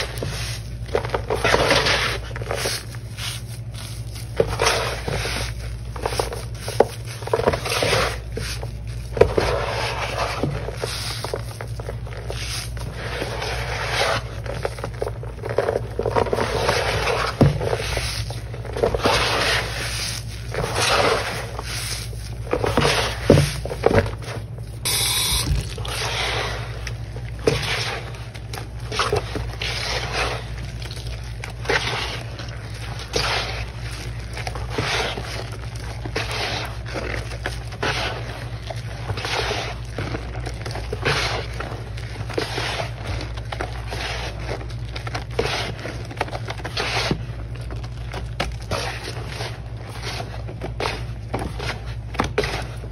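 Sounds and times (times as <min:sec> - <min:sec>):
steady low hum: 0:00.0 - 0:52.9
wet sponge squishing: 0:00.0 - 0:52.9.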